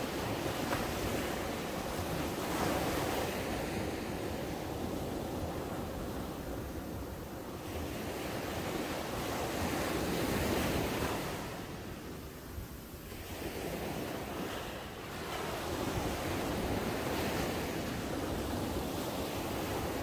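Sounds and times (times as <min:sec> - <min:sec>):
small waves breaking on sand: 0:00.0 - 0:20.0.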